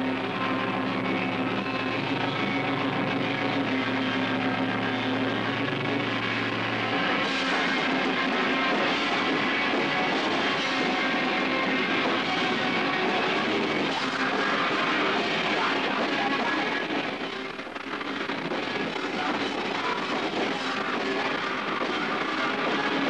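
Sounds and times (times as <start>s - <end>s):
loud distorted rock band: 0.0s - 23.0s.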